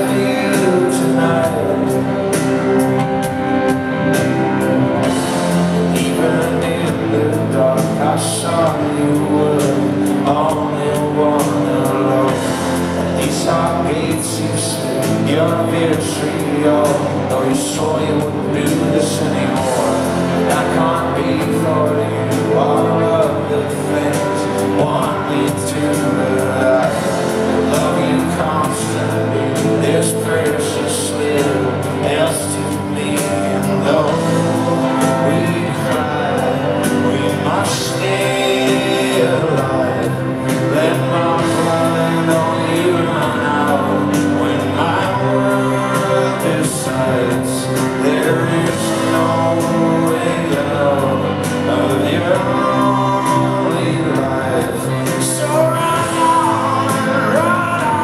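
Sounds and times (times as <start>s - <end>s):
electric guitars: 0.0s - 58.0s
person singing: 0.0s - 58.0s.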